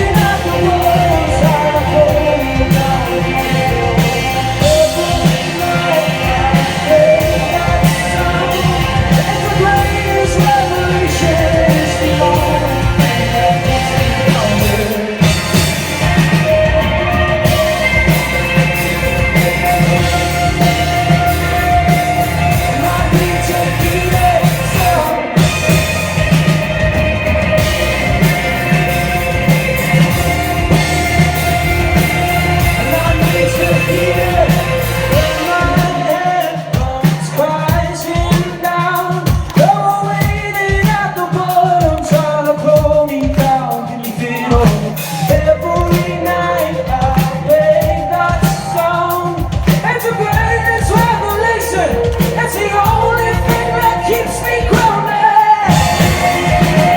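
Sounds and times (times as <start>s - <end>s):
man singing lead: 0.0s - 56.9s
rock band playing: 0.0s - 56.9s.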